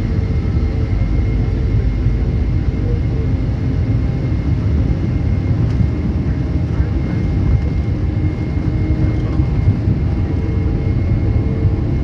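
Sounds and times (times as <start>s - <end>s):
jet engines at takeoff thrust: 0.0s - 12.0s.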